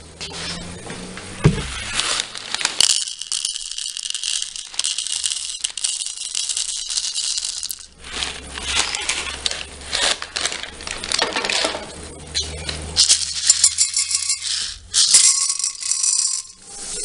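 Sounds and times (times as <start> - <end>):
popcorn kernels poured into cup: 1.9 - 11.8, 13.0 - 17.0.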